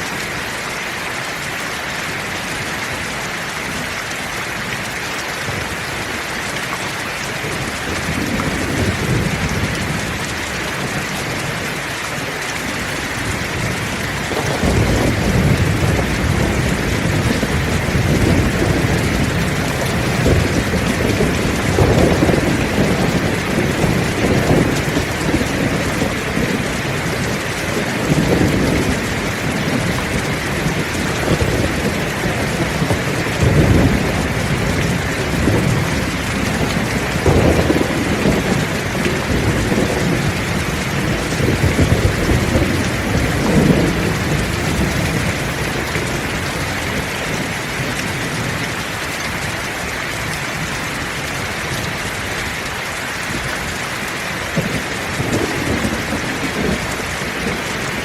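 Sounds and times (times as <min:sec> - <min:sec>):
heavy rain pouring: 0:00.0 - 0:58.0
thunder rumbling: 0:07.3 - 0:58.0.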